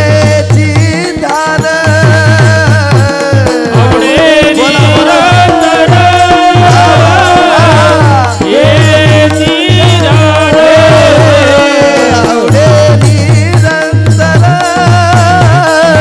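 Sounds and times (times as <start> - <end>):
person singing devotional song: 0.0 - 16.0.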